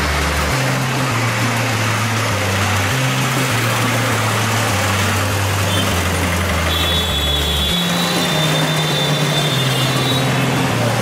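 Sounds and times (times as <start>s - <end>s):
motorbike and scooter engines passing: 0.0s - 11.0s.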